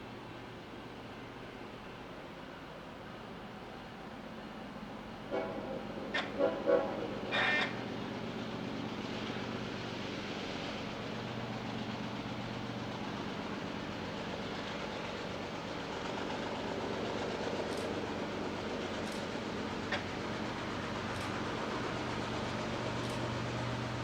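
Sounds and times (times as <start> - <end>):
train cars rumbling on rails: 0.0 - 24.0.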